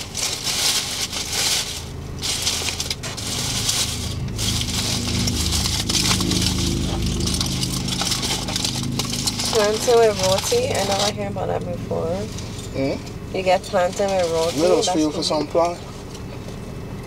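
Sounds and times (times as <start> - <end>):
foil tin crackling: 0.0 - 16.2
steady low hum: 0.0 - 17.0.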